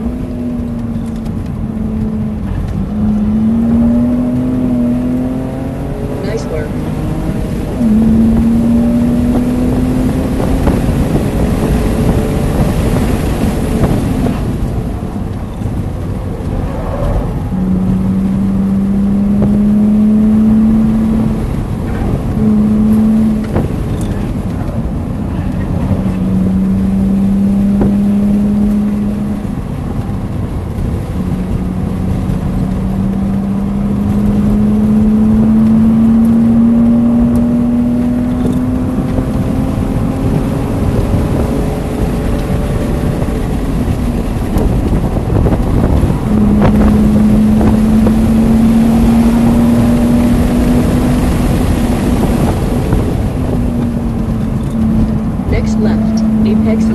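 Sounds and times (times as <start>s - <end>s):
car engine running hard: 0.0s - 56.9s
wind and road noise: 0.0s - 56.9s.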